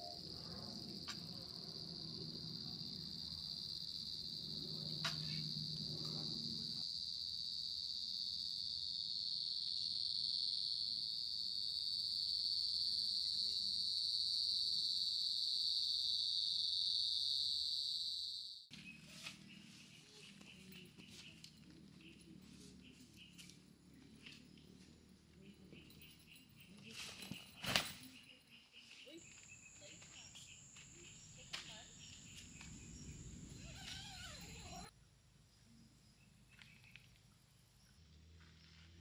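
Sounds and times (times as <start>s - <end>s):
high-pitched insect chorus: 0.0s - 19.3s, 20.0s - 34.9s.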